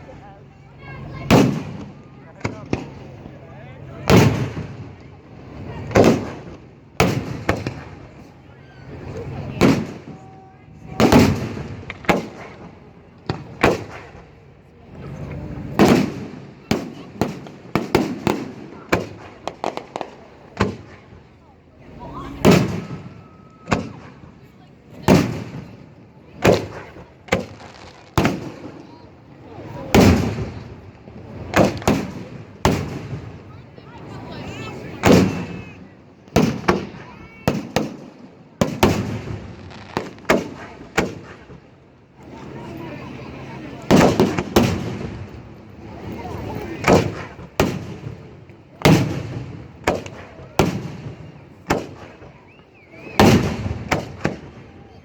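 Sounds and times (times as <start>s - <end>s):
fireworks exploding: 0.0s - 55.0s.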